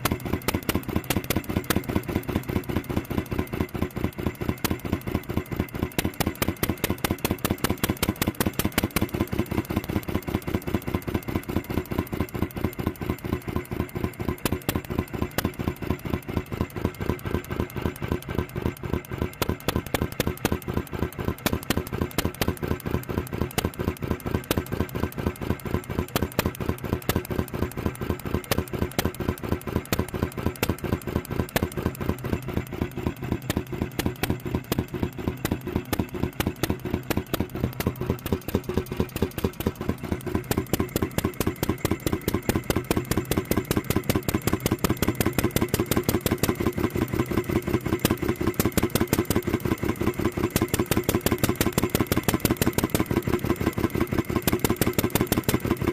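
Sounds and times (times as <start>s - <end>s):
gas engine clattering: 0.0s - 55.9s.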